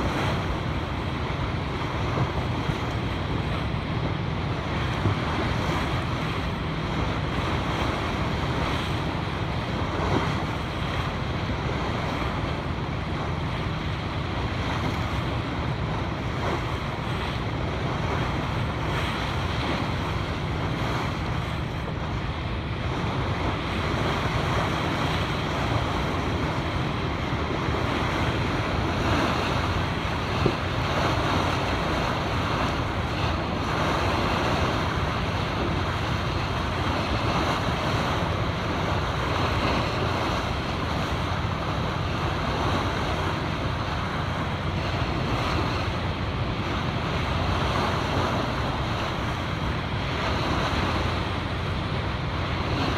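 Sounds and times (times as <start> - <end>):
steady low hum: 0.0 - 52.9
surf breaking on rocks: 0.0 - 52.9
wind on microphone: 0.0 - 52.9.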